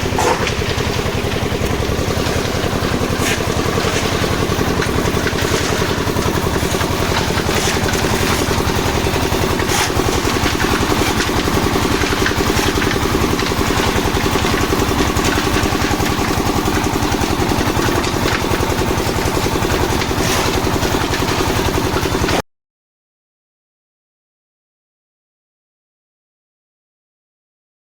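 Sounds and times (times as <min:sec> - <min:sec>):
engine chugging steadily: 0:00.0 - 0:22.4.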